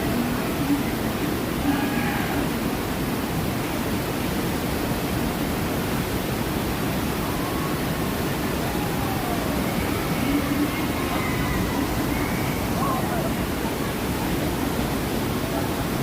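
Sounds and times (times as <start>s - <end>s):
rushing falling water: 0.0s - 16.0s.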